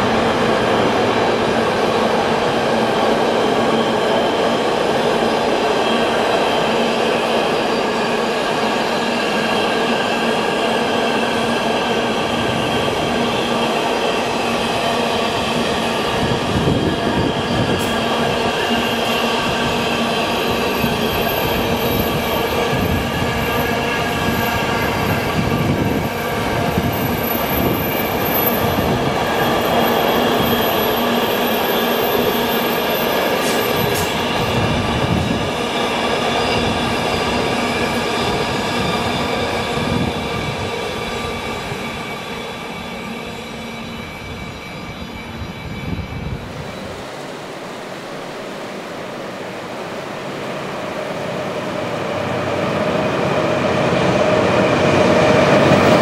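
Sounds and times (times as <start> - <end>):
freight train rumbling past: 0.0 - 56.0
train wheels whining: 0.0 - 56.0.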